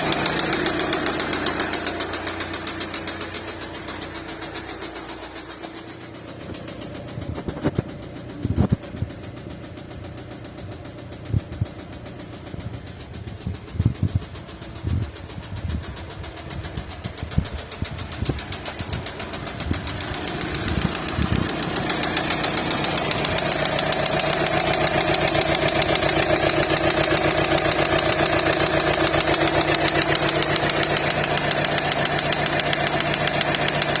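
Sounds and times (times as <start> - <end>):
diesel engine clattering: 0.0 - 34.0.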